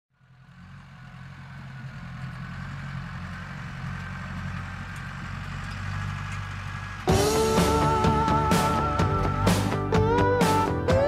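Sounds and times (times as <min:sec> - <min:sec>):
tractor engine running: 0:00.2 - 0:11.0.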